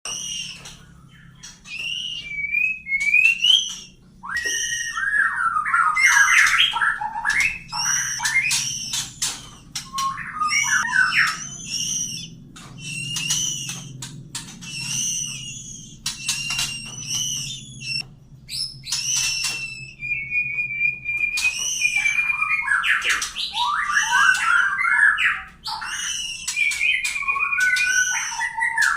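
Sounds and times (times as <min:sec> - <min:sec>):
bird chicks chirping and whistling: 0:00.0 - 0:28.9.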